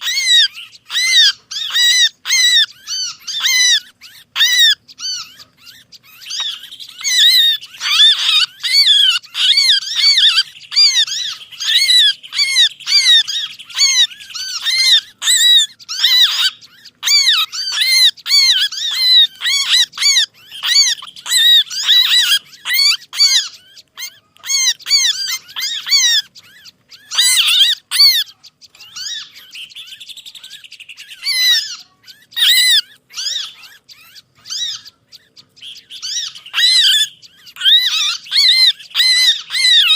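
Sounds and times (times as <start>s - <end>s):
buzzing bird chatter: 0.0s - 39.9s
songbirds alarm calls: 0.0s - 39.9s.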